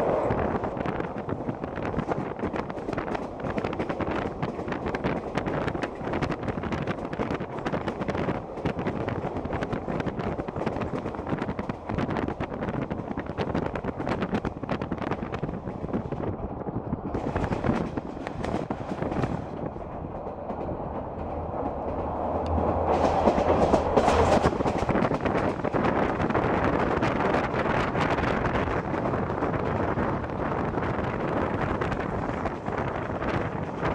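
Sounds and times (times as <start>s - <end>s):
train wheels clattering on track: 0.0s - 16.2s, 17.0s - 33.9s.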